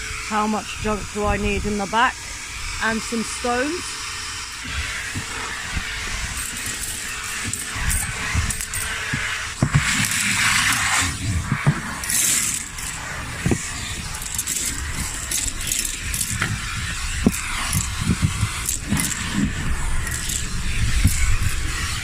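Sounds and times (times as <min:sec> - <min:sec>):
vacuum cleaner running: 0:00.0 - 0:22.0
grit rattling up nozzle: 0:02.8 - 0:22.0.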